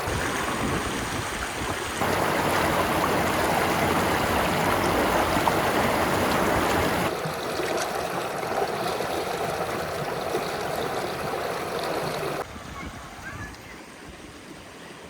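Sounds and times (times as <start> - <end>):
creek water flowing: 0.0 - 15.0.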